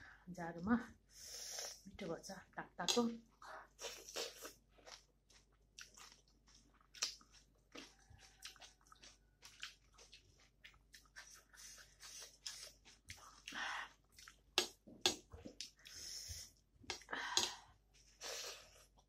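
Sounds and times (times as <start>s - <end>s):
person chewing food: 2.9s - 19.0s.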